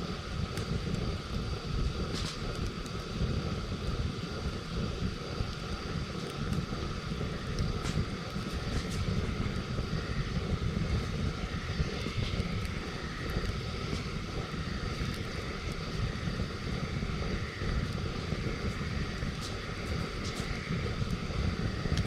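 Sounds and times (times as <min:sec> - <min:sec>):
campfire crackles: 0:00.0 - 0:22.0
low fire rumble: 0:00.0 - 0:22.0.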